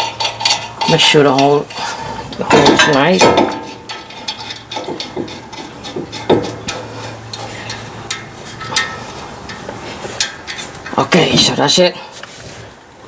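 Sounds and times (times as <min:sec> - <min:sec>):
metal clicks and scraping: 0:00.0 - 0:11.6.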